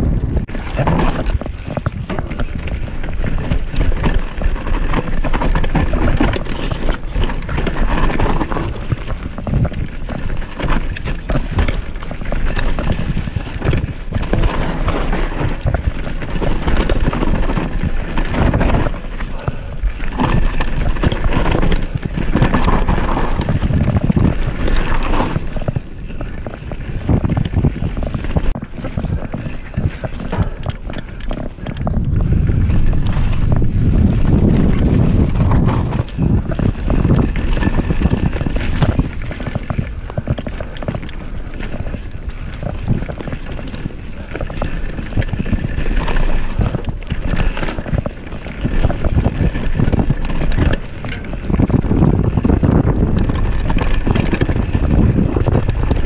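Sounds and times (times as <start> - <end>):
bike tyres clattering over roots: 0.0 - 56.0
wind rumble on microphone: 0.0 - 56.0.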